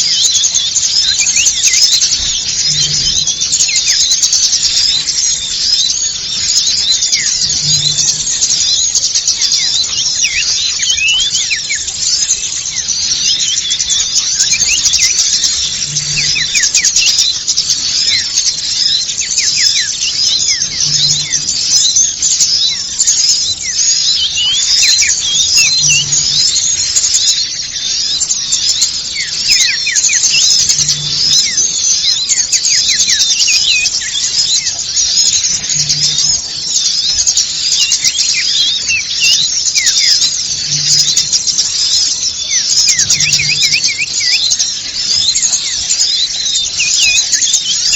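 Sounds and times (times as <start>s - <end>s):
chorus of small birds chirping: 0.0s - 47.9s.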